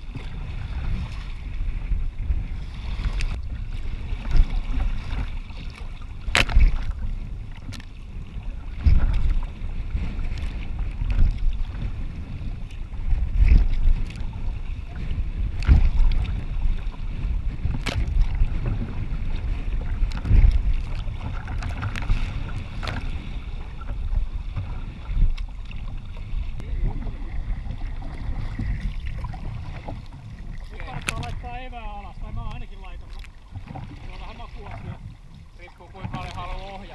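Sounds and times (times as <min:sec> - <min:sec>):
water splashing against hull: 0:00.0 - 0:36.9
wind rumbling on microphone: 0:00.0 - 0:36.9.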